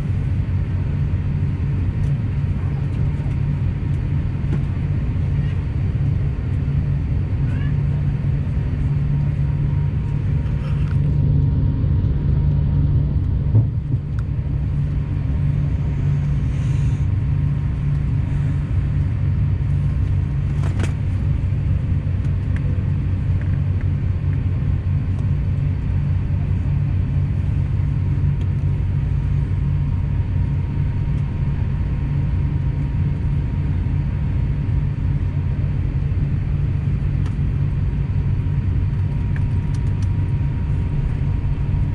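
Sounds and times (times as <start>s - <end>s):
airliner cabin rumble: 0.0s - 41.9s
faint steady whine: 0.0s - 41.9s.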